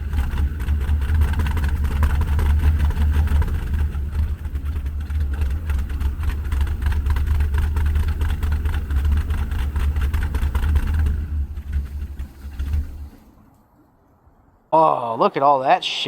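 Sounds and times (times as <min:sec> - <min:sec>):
truck engine running: 0:00.0 - 0:13.5.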